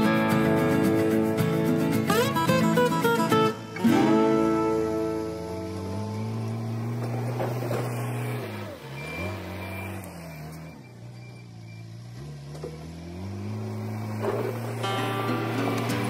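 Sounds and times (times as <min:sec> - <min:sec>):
backhoe engine revving: 0:00.0 - 0:16.0.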